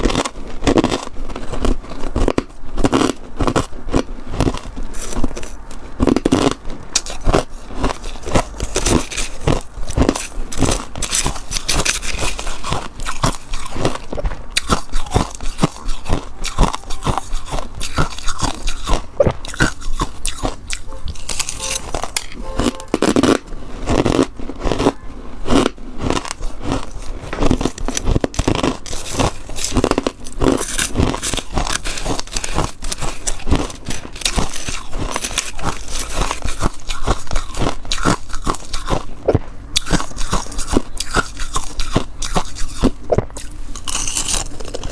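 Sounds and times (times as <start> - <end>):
crunching ice being chewed: 0.0 - 44.9.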